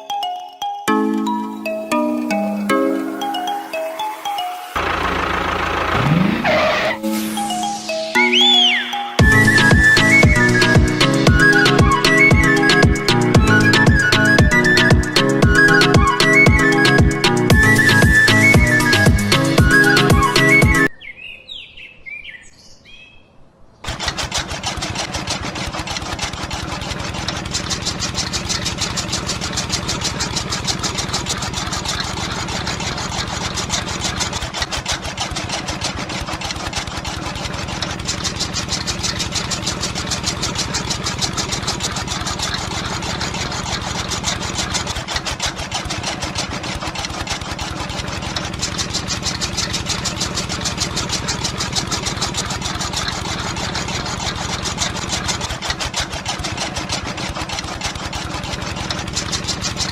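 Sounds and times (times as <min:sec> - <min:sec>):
small engine running: 0:01.0 - 0:20.9, 0:23.8 - 0:59.9.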